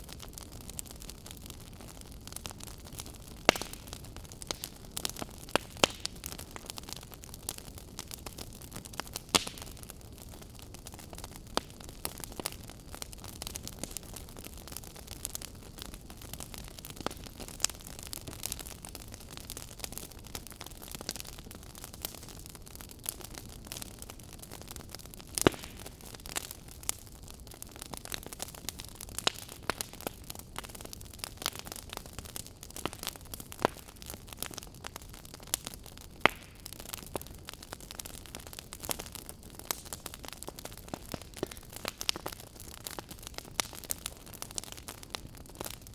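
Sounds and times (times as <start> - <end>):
fire crackling with pops: 0.0 - 45.9.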